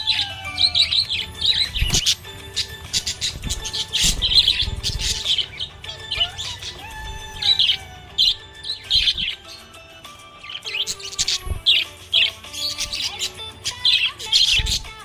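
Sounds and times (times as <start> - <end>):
budgerigar chirping: 0.0 - 15.0
music playing: 0.0 - 15.0.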